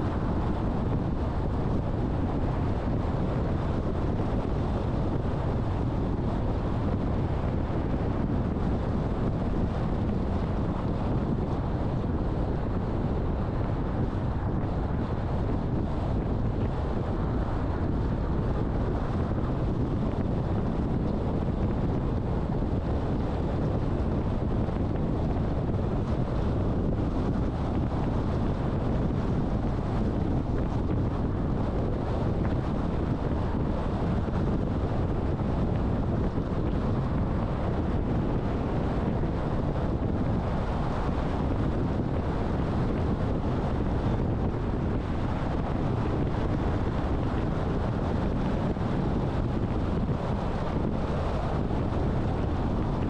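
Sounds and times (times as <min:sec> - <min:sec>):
road and wind noise: 0:00.0 - 0:53.0
wind buffeting microphone: 0:00.0 - 0:53.0.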